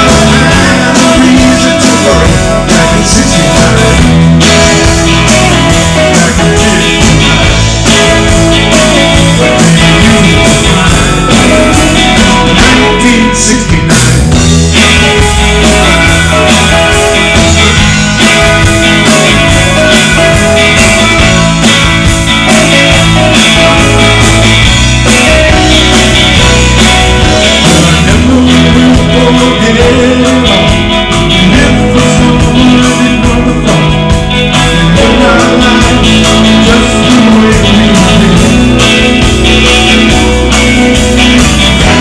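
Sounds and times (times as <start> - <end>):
bass guitar: 0.0 - 42.0
drum kit: 0.0 - 42.0
electric guitars: 0.0 - 42.0.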